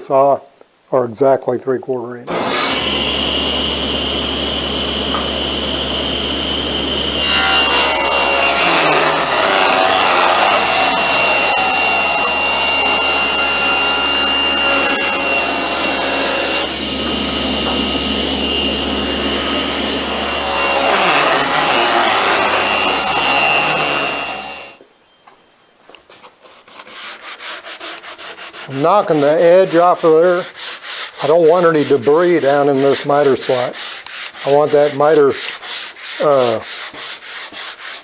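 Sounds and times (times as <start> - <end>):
table saw cutting wood: 2.3 - 24.8, 26.8 - 38.0.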